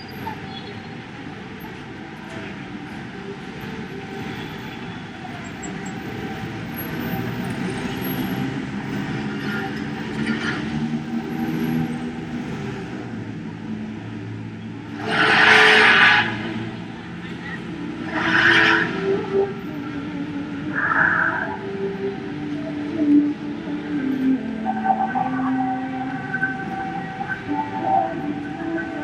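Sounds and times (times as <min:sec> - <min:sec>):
vehicle engines passing: 0:00.0 - 0:29.0.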